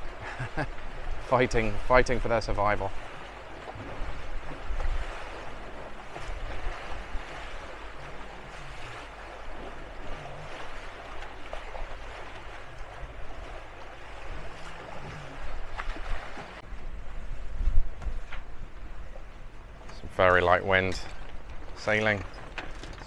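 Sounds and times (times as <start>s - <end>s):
wake water rushing: 0.0s - 23.0s.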